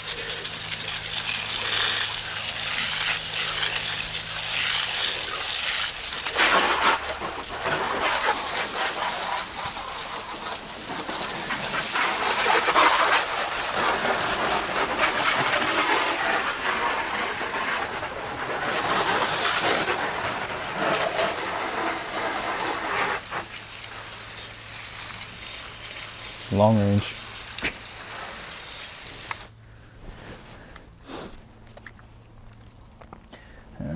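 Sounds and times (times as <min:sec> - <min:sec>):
water spraying onto car: 0:00.0 - 0:29.6.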